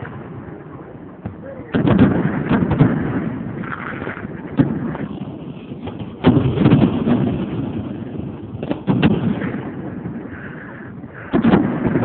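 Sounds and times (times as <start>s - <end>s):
firework shells bursting: 1.2s - 12.0s.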